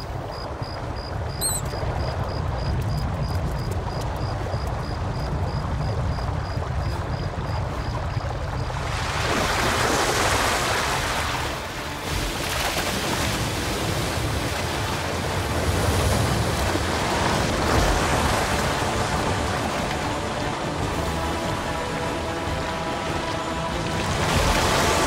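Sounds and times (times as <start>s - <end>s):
water rushing down rocky gully: 3.1s - 25.0s.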